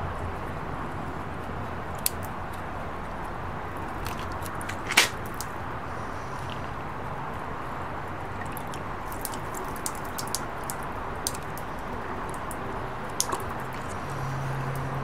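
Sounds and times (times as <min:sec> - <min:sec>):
water trickling in a thin stream: 0:00.0 - 0:15.0.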